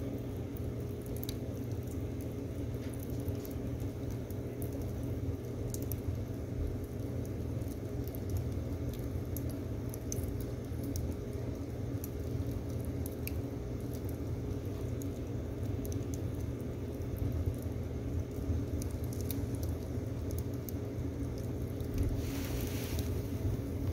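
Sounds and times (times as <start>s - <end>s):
stove fire low rumble: 0.0s - 23.9s
fire crackling and popping: 0.1s - 23.9s.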